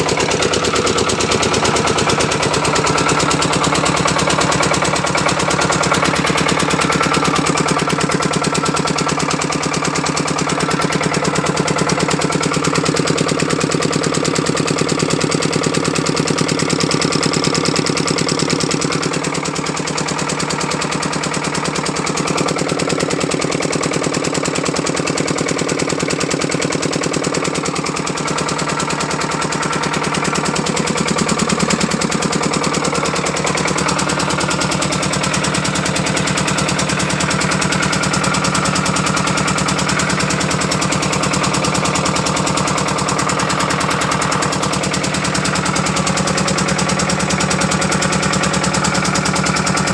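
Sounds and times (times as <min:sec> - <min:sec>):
generator engine running: 0:00.0 - 0:49.9.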